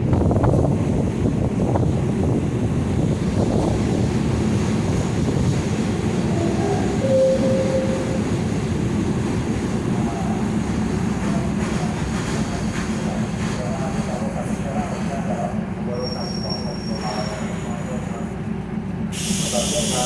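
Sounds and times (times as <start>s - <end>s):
train rumbling along rails: 0.0s - 20.0s.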